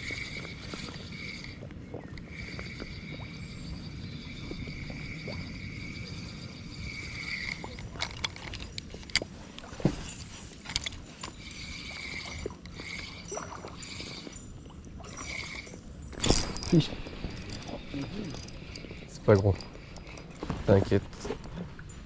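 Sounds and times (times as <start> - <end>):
water and wind rumble: 0.0 - 22.0.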